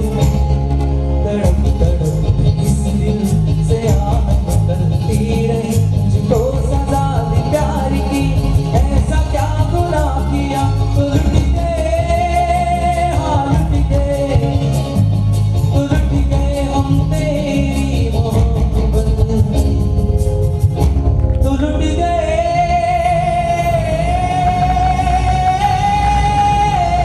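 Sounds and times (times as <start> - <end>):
man singing into a microphone: 0.0 - 20.2, 21.4 - 27.0
instrumental accompaniment: 0.0 - 27.0.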